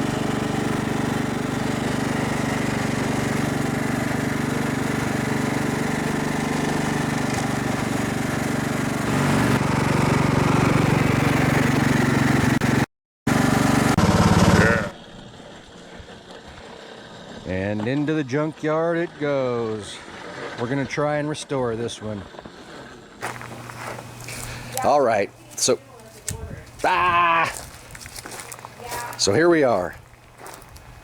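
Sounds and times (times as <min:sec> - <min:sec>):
riding lawn mower engine: 0:00.0 - 0:31.0.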